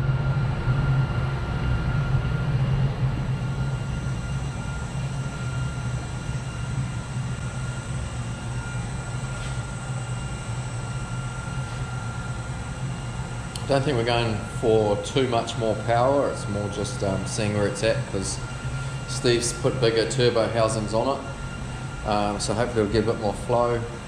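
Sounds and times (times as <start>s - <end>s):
faint high whine: 0.0s - 24.0s
car engine idling: 3.1s - 24.0s.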